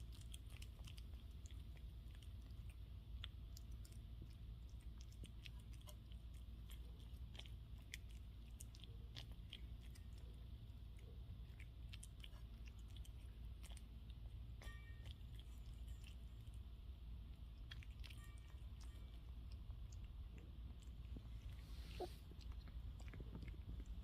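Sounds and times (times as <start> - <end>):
cat chewing and licking: 0.0 - 24.0
steady low hum: 0.0 - 24.0.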